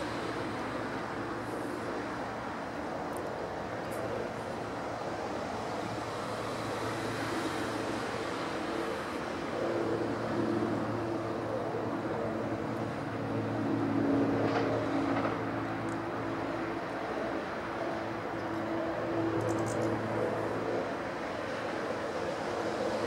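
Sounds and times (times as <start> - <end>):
motor traffic drone: 0.0 - 23.0.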